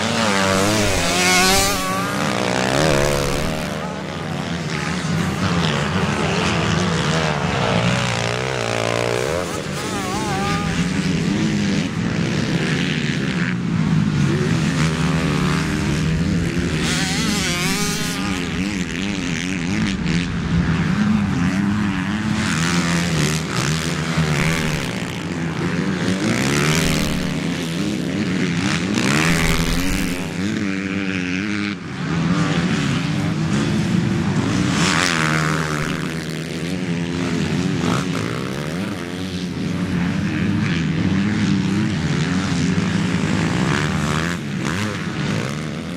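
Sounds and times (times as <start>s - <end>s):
motocross bikes revving past: 0.0s - 45.9s.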